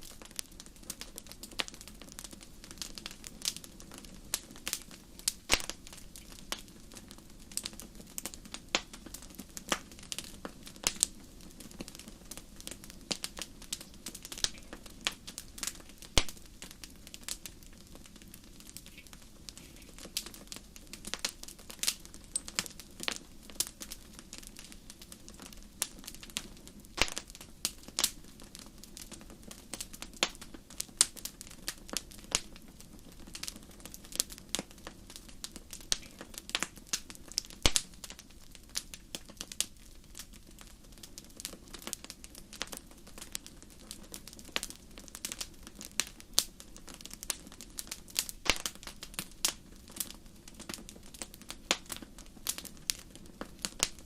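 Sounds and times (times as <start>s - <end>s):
fire crackling and popping: 0.0s - 54.0s
flames rumbling: 0.0s - 54.0s.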